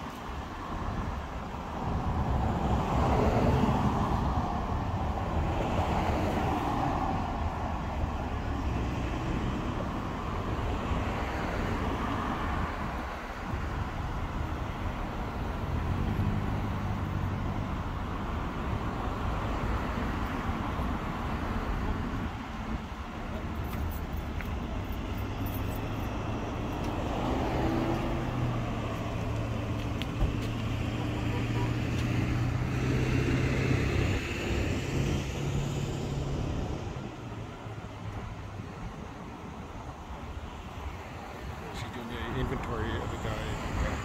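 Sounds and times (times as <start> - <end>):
street traffic engine hum: 0.0 - 44.0.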